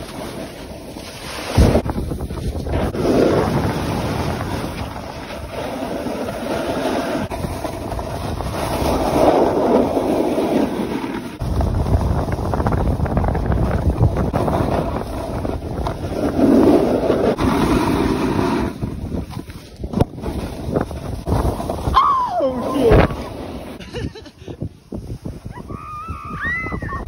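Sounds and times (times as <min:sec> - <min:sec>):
skis scraping on packed snow: 0:00.0 - 0:21.9, 0:23.1 - 0:25.5
wind buffeting microphone: 0:01.5 - 0:10.2, 0:11.4 - 0:27.0.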